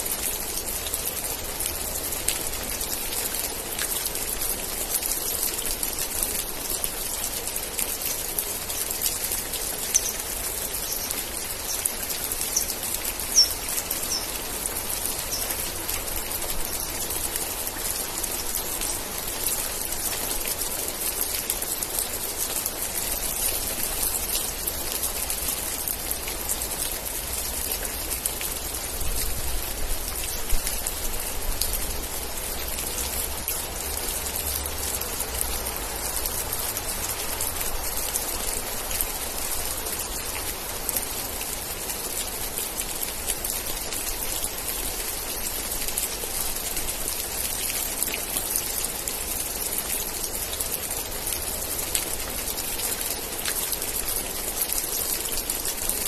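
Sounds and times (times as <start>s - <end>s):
raindrops pattering close by: 0.0s - 56.0s
steady rain hiss: 0.0s - 56.0s.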